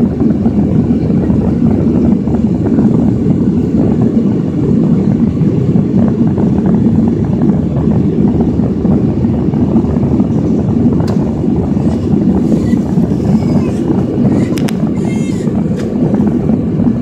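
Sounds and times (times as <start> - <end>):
jet engine and airflow cabin noise: 0.0 - 17.0.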